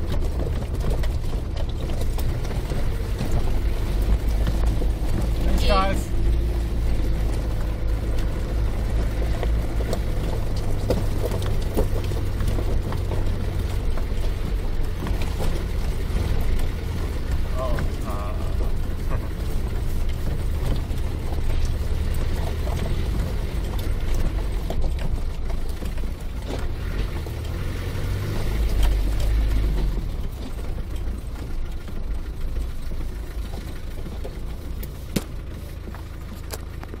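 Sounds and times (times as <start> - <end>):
knocks and rattles: 0.0 - 37.0
vehicle engine rumble: 0.0 - 37.0.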